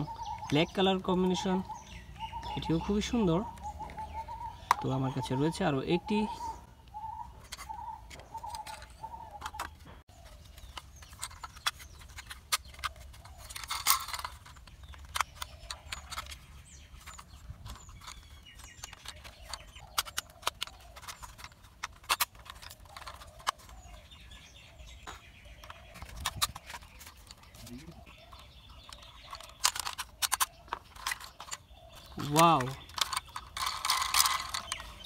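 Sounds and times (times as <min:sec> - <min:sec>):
plastic toy parts clicking: 0:02.4 - 0:06.3, 0:07.4 - 0:35.0.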